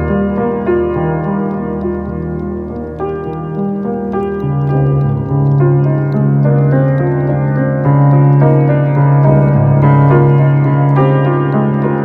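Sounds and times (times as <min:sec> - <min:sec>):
solo piano: 0:00.0 - 0:12.0.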